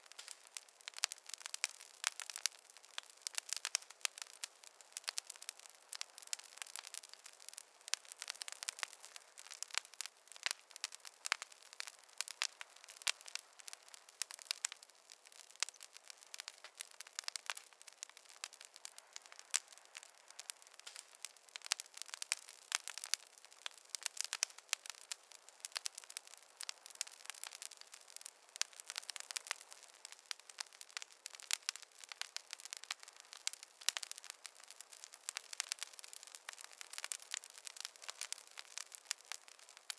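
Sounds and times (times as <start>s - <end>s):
faint hiss: 0.0s - 39.9s
wood fire crackling: 0.0s - 39.9s.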